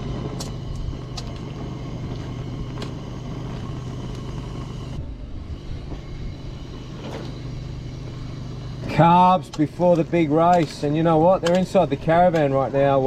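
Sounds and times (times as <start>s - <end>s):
portable generator humming: 0.0s - 13.0s.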